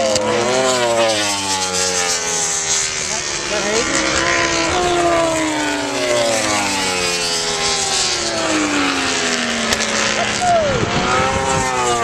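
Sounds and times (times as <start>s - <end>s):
racing motorcycles passing: 0.0s - 12.0s.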